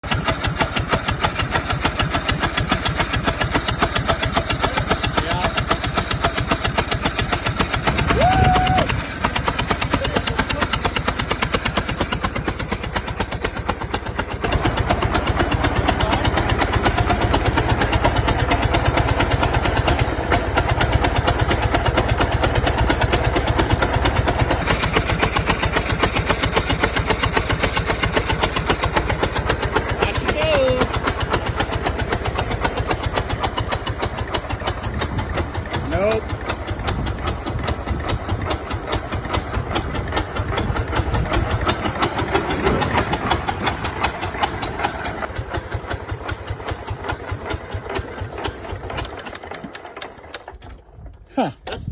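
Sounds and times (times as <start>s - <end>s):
tractor engine running unevenly: 0.0s - 51.9s.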